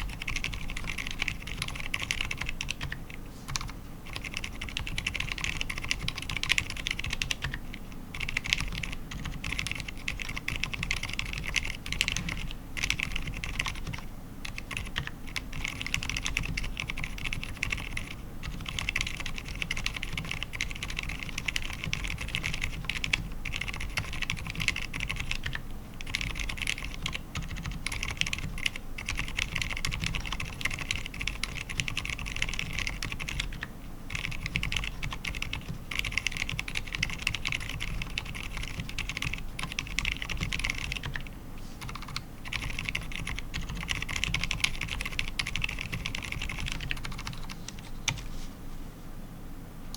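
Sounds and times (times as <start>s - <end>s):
fast typing on mechanical keyboard: 0.0s - 48.3s.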